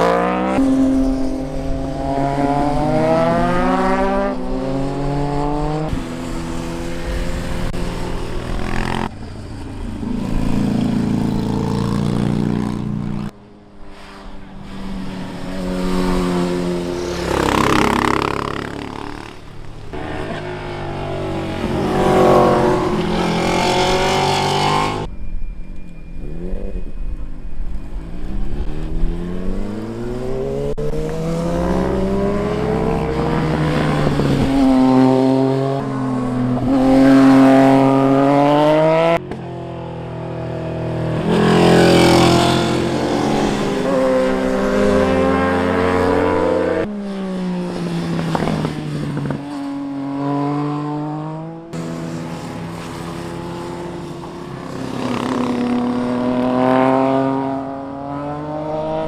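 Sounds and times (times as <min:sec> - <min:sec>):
motorcycles passing by: 0:00.0 - 0:25.3, 0:25.9 - 0:59.0.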